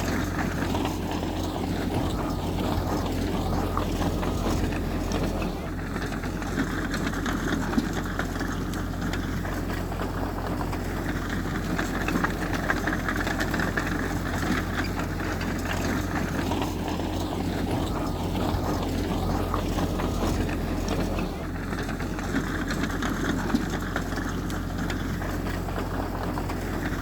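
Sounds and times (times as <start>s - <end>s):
diesel engine of heavy machinery: 0.0s - 27.0s.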